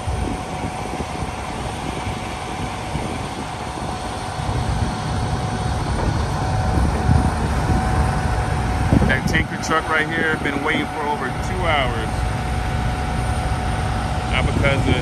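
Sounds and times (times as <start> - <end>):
diesel engine rumble: 0.0 - 15.0
high whine: 0.0 - 15.0.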